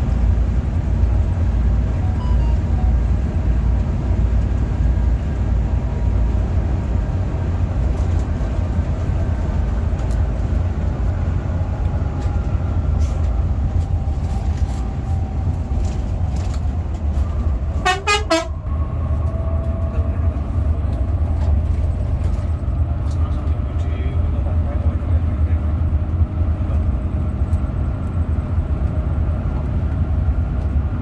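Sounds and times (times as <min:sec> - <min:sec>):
coach engine rumbling: 0:00.0 - 0:31.0.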